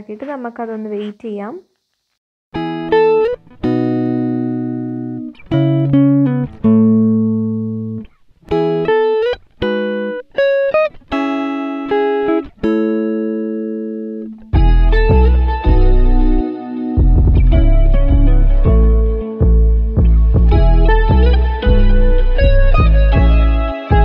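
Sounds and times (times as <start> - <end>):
plucked guitar notes and chords: 2.6 - 24.0.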